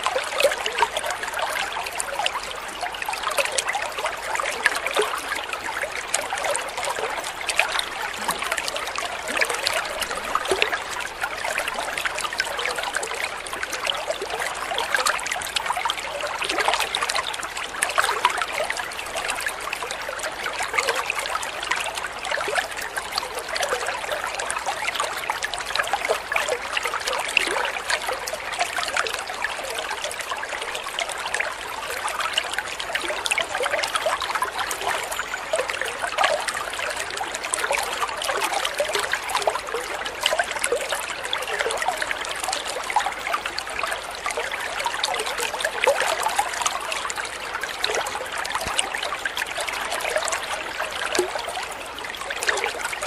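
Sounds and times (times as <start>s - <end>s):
water trickling into pond: 0.0s - 53.0s.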